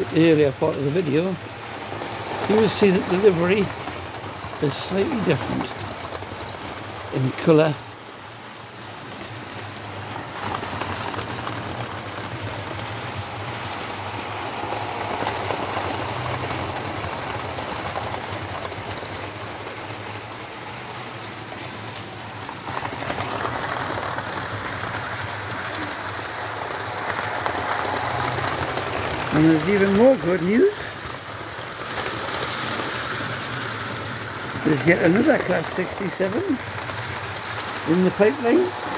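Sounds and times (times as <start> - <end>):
model trains running on track: 0.0 - 38.9.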